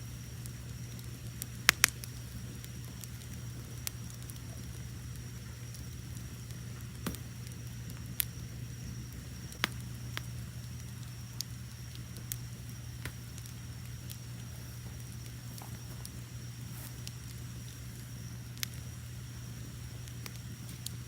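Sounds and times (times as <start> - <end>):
crickets chirping: 0.0 - 21.0
wood fire crackling and popping: 0.0 - 21.0.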